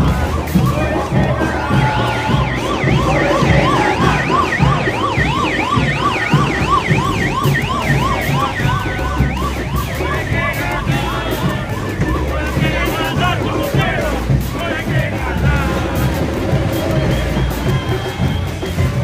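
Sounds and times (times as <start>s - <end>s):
electronic siren yelping: 0.0s - 18.9s.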